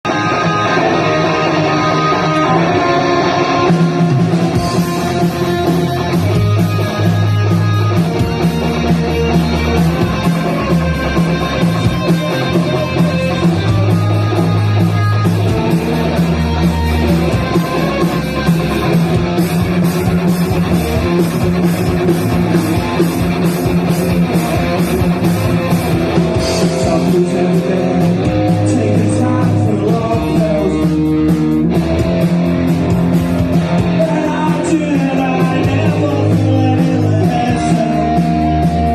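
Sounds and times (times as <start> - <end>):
bass notes: 0.0 - 38.9
drums: 0.0 - 38.9
electric guitar: 0.0 - 38.9.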